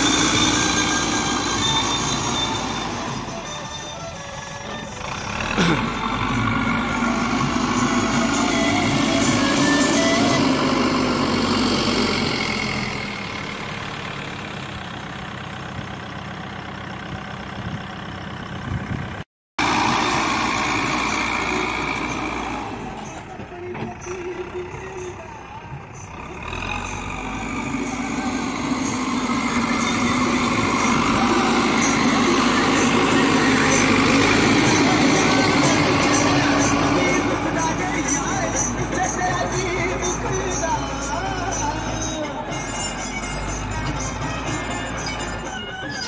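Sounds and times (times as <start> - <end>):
diesel engine running: 0.0 - 46.0
loader bucket pushing dirt: 0.0 - 46.0.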